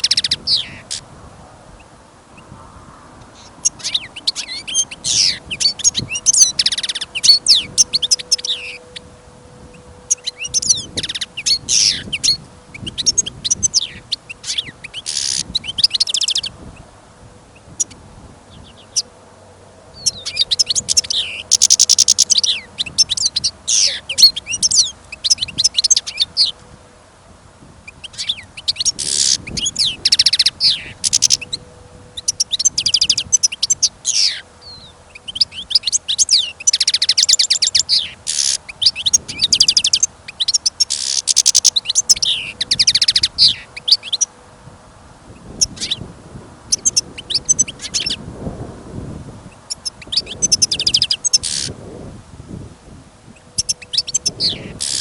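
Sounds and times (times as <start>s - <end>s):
goldfinch singing: 0.0s - 1.1s, 3.3s - 16.9s, 17.5s - 19.2s, 19.9s - 27.0s, 27.8s - 44.4s, 45.3s - 46.1s, 46.7s - 48.2s, 49.5s - 51.8s, 53.3s - 55.0s.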